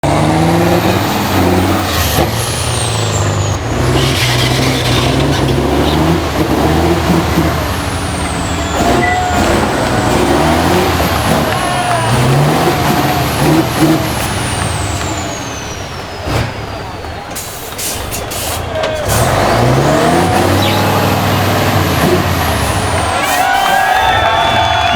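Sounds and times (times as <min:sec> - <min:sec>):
truck diesel engine under load: 0:00.0 - 0:24.9.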